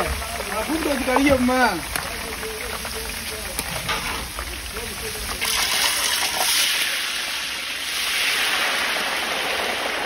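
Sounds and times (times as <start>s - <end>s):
potato slices sizzling in hot oil: 0.0s - 10.0s.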